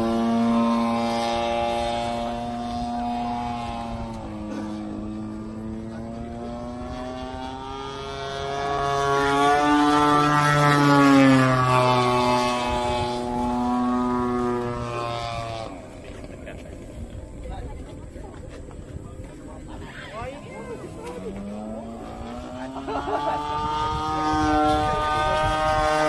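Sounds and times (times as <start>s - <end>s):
model airplane motor droning: 0.0s - 26.0s.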